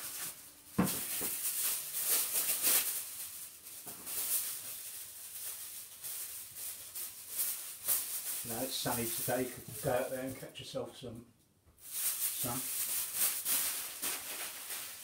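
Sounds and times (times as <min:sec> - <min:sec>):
kitchen foil crinkling: 0:00.0 - 0:10.5, 0:11.8 - 0:15.0.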